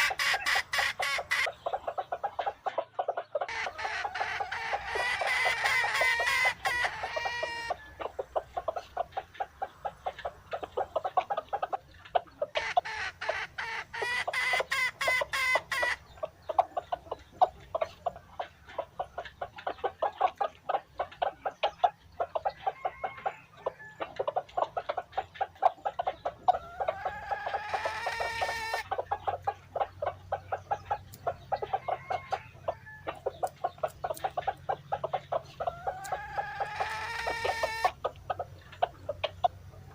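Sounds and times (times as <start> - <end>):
chickens clucking: 0.0 - 39.9
drawn-out chicken calls: 0.0 - 39.9.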